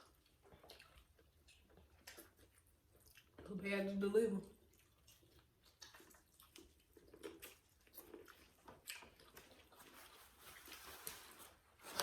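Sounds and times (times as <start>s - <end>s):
wet chewing and mouth smacks: 0.0s - 3.6s, 4.4s - 12.0s.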